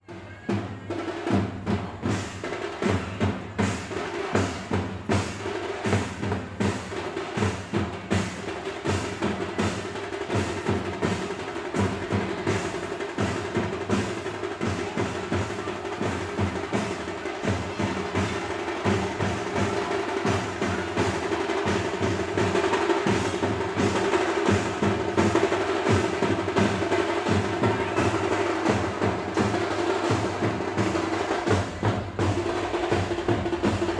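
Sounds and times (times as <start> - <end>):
drums playing fast rhythm: 0.1 - 33.9.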